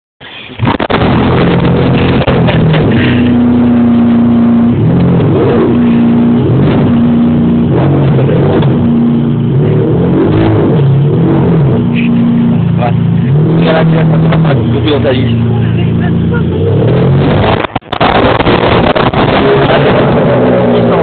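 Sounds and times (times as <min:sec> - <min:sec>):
car engine starting and idling: 0:00.3 - 0:21.0
engine throttle blips: 0:00.4 - 0:21.0.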